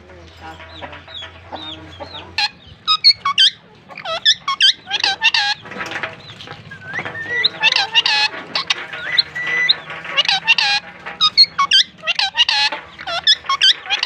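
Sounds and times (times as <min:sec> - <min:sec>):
parakeets chirping and calling: 0:00.0 - 0:14.0.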